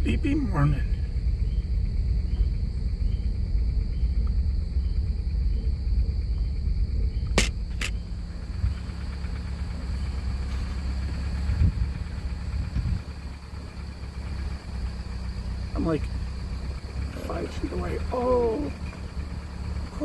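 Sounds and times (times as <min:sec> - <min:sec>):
insects chirping: 0:00.0 - 0:20.0
vehicle engine rumble: 0:00.0 - 0:20.0.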